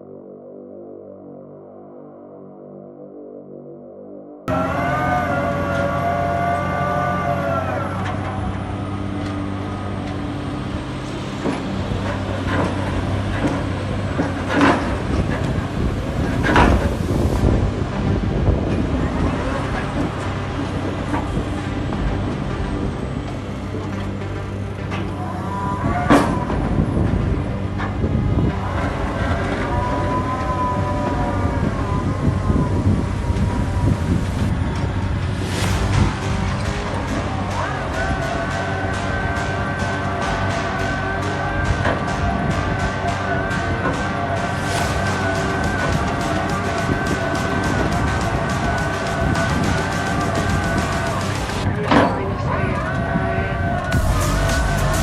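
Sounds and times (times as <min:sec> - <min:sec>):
intro music: 0:00.0 - 0:51.8, 0:53.8 - 0:55.0
diesel engine running: 0:04.5 - 0:55.0
wavering high whine: 0:04.5 - 0:55.0.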